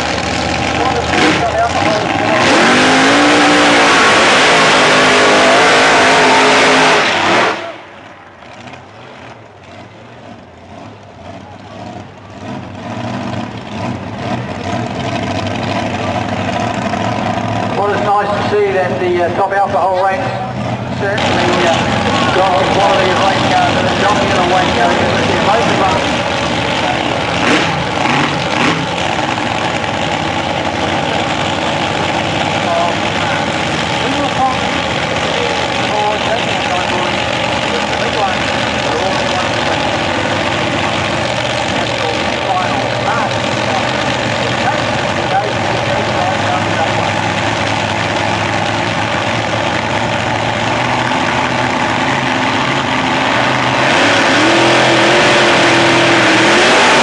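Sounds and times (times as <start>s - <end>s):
distant engine rumble: 0.0s - 57.0s
dragster engines at full throttle: 0.0s - 57.0s.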